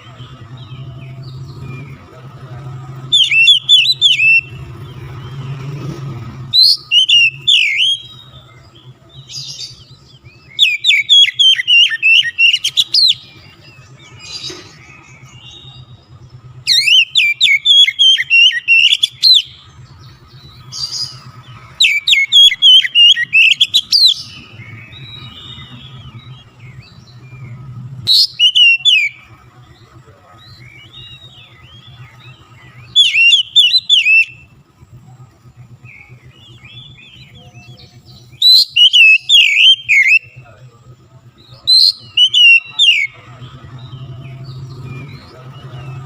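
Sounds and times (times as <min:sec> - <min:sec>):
bird singing whistled notes: 0:00.0 - 0:46.0
quiet bird chirps: 0:00.0 - 0:46.0.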